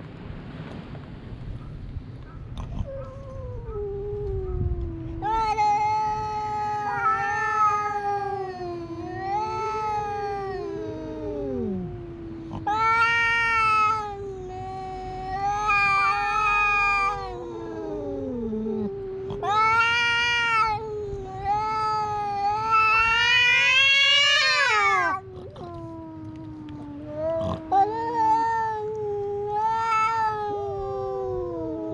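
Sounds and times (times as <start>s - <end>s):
cats yowling: 2.3s - 31.9s.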